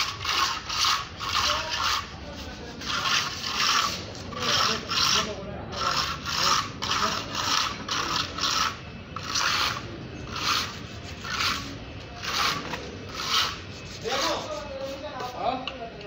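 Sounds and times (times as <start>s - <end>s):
trowel scraping rough wall: 0.0s - 15.5s.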